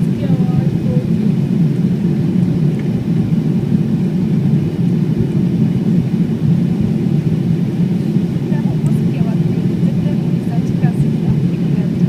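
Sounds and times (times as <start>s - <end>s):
jet airliner engine rumble: 0.0s - 12.0s.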